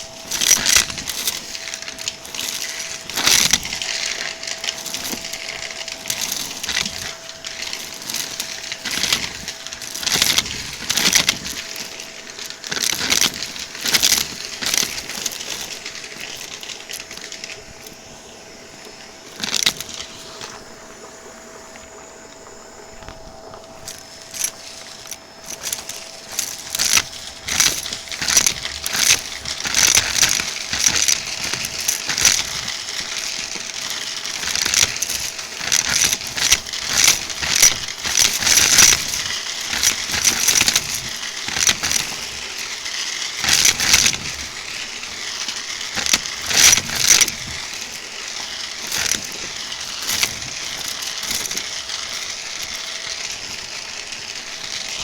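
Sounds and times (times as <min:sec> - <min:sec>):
vacuum cleaner whine: 0:00.0 - 0:55.0.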